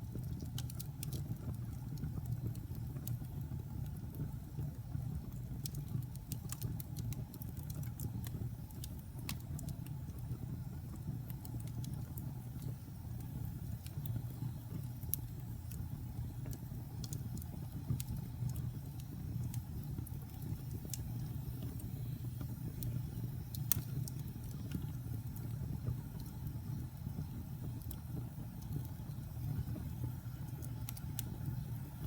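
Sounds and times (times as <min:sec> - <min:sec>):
wood fire burning: 0:00.0 - 0:32.0.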